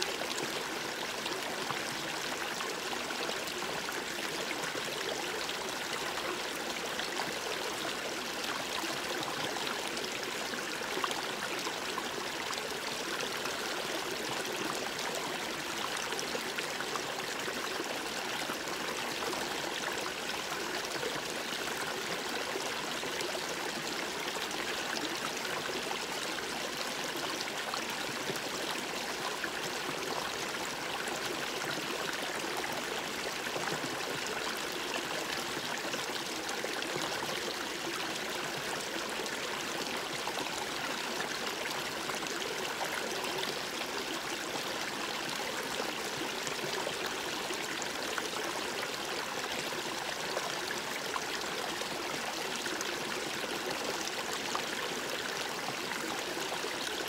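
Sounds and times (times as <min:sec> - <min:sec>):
brook babbling over rocks: 0:00.0 - 0:57.0.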